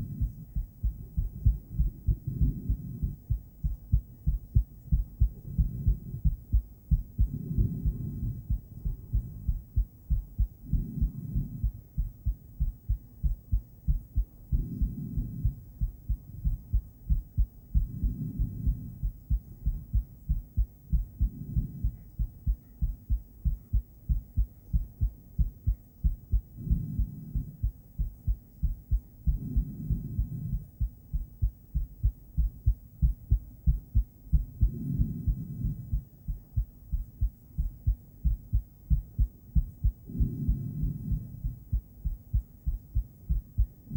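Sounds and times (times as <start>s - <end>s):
doppler heartbeat: 0.0s - 43.9s.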